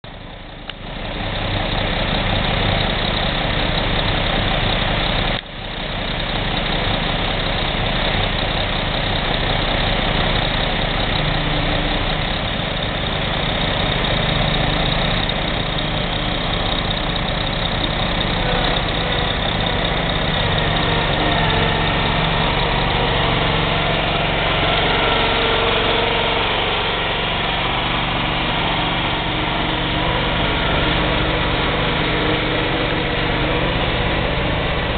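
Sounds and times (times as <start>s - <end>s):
truck and buggy engines running: 0.0s - 34.9s.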